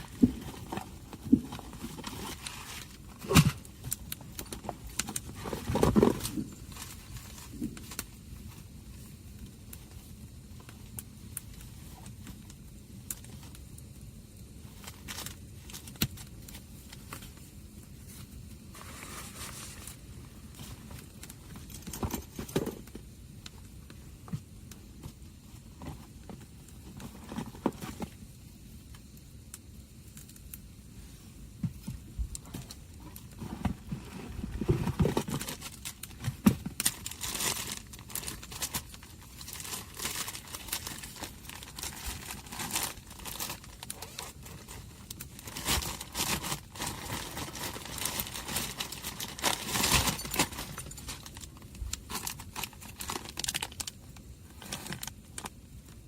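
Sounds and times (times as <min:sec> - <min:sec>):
material crinkling and rustling: 0:00.0 - 0:13.7, 0:14.5 - 0:28.3, 0:31.0 - 0:56.0.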